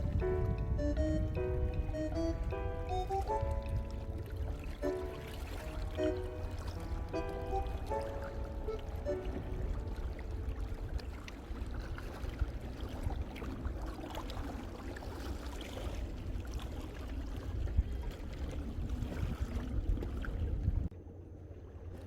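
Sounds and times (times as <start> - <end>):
waves lapping at shore: 1.2 - 20.7.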